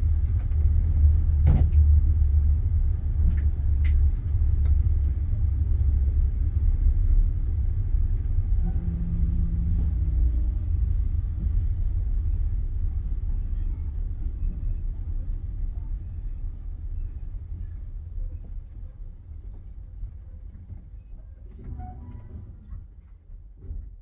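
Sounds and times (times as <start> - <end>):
train coach rumbling: 0.0 - 24.0.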